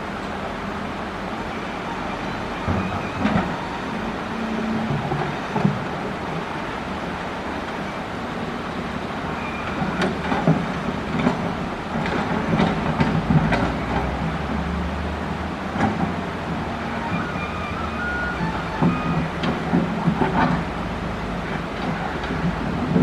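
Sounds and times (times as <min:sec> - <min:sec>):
excavator engine under load: 0:00.0 - 0:23.0.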